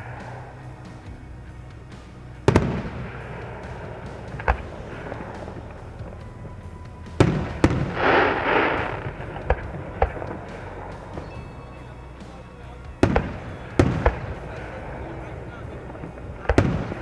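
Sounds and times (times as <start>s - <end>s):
fireworks crackling: 0.0s - 17.0s
fireworks exploding: 0.0s - 17.0s.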